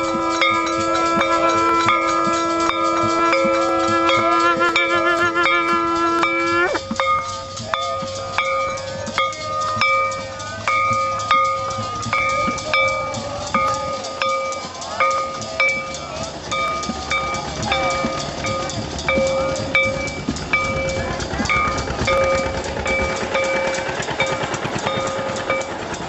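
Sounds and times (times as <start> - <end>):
held wavering tone: 0.0 - 26.0
temple bell strikes ringing: 0.0 - 26.0.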